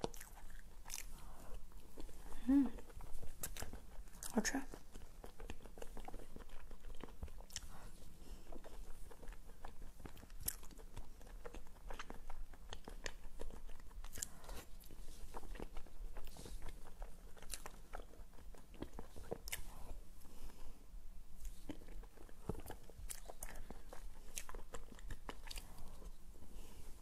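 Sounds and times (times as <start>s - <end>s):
chewing: 0.0s - 20.8s, 21.4s - 27.0s.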